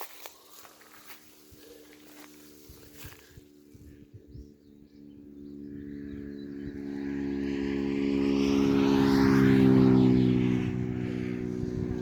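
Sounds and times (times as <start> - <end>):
vehicle passing by: 0.5 - 12.0.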